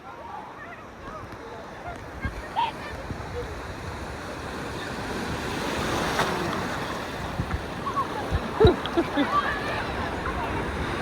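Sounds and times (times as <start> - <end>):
ocean waves breaking: 0.0 - 11.0
wind buffeting microphone: 2.0 - 11.0.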